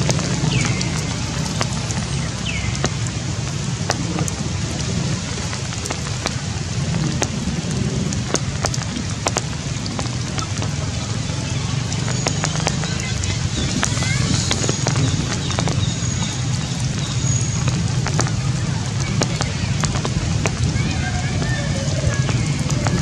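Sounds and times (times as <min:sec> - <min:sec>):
rain falling on leaves: 0:00.0 - 0:23.0.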